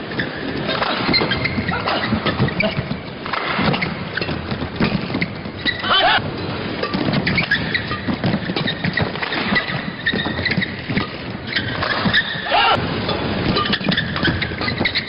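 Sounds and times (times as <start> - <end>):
shoes thudding and squeaking: 0.0 - 15.0.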